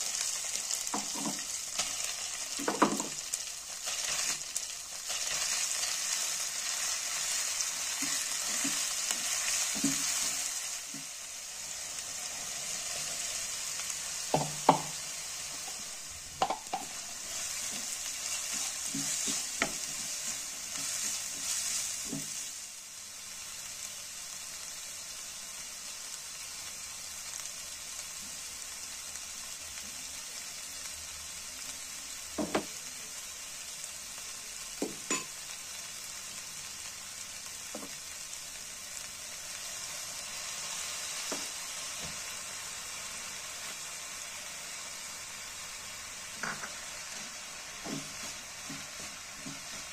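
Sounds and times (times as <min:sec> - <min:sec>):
peas sizzling in hot oil: 0:00.0 - 0:49.9.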